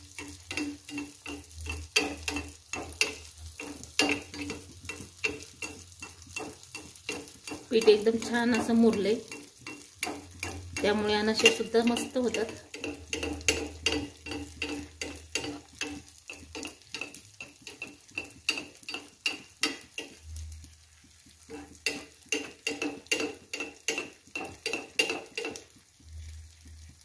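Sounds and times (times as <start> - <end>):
ladle scraping and clinking pan: 0.0 - 20.3, 21.5 - 25.7
food sizzling in hot oil: 0.0 - 27.0.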